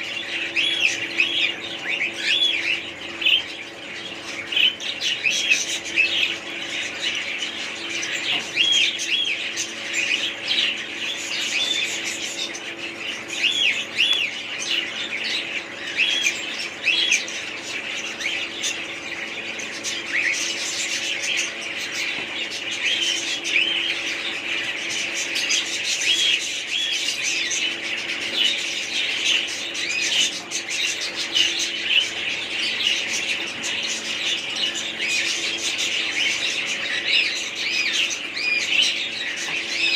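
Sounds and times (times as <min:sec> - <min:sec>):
birds chirping and squawking: 0:00.0 - 0:39.9
steady low hum: 0:00.0 - 0:39.9.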